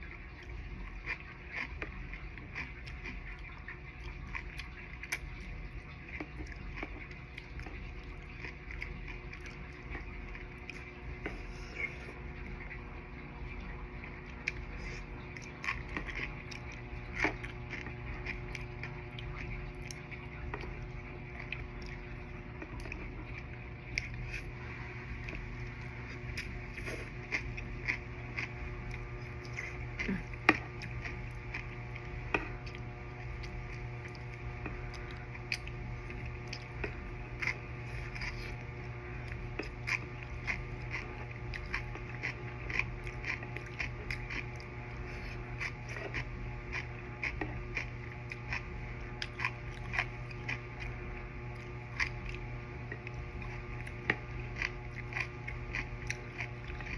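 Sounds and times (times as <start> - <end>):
chewing with wet clicks: 0.0 - 24.6, 25.2 - 56.9
steady low hum: 0.0 - 56.9.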